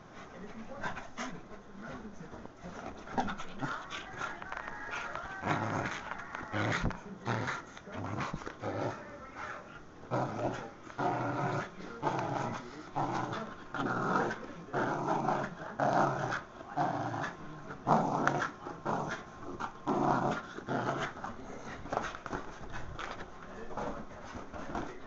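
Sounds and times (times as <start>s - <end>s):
small dog growling: 2.8s - 23.2s.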